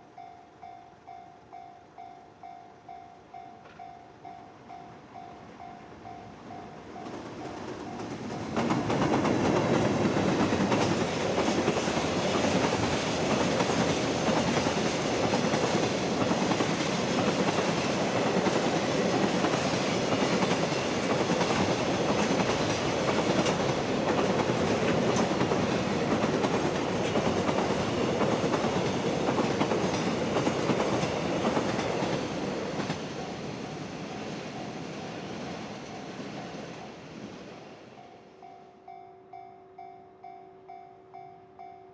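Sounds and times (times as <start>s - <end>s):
freight train passing: 0.0s - 41.9s.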